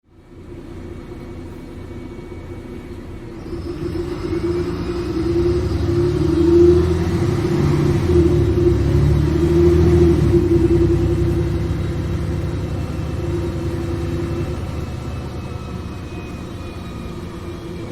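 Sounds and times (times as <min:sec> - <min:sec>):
bus engine rumbling: 0:00.0 - 0:17.9.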